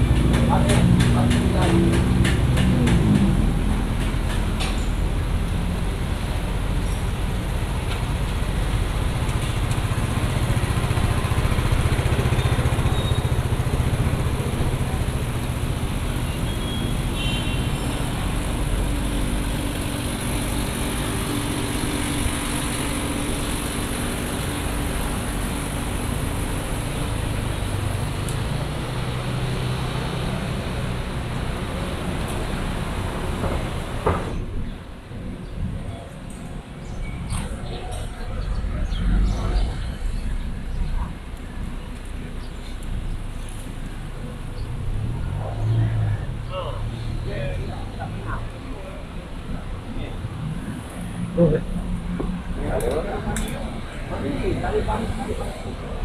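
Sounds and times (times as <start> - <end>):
cars and motorcycles passing: 0.0 - 56.0
steady engine hum: 0.0 - 56.0.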